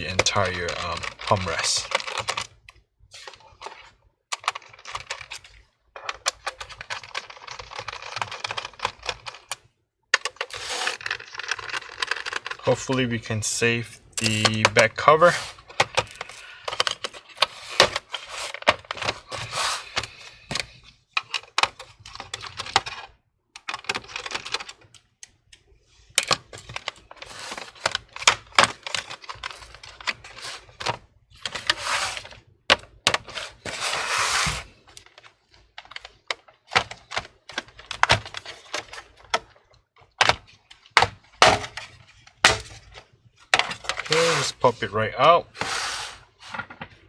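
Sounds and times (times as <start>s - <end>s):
plastic scraping: 0.0s - 25.0s, 25.9s - 47.0s.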